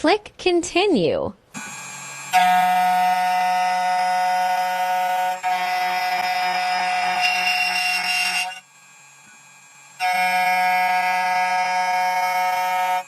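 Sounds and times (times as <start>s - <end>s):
key cutting machine whine: 1.6s - 13.0s.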